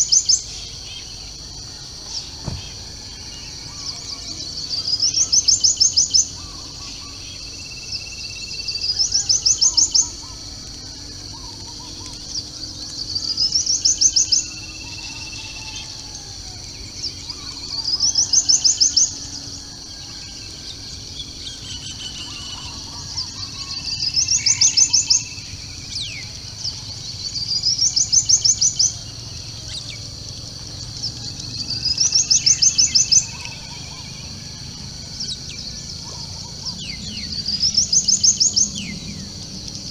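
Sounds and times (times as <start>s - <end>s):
high-pitched insect hiss: 0.0s - 39.9s.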